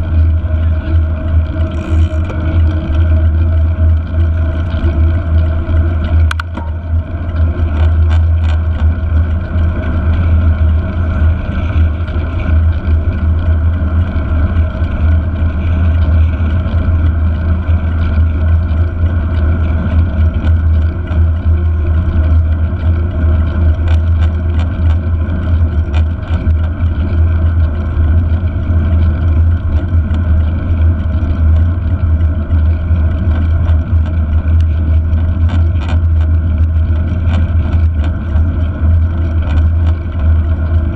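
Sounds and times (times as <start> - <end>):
bike rolling on tarmac: 0.0 - 40.9
wind rumble on microphone: 0.0 - 40.9.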